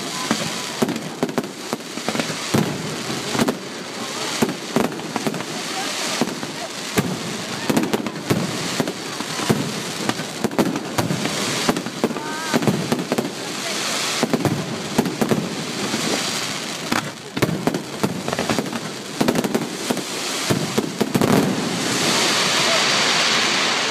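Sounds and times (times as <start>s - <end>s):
fireworks bangs: 0.0s - 23.9s.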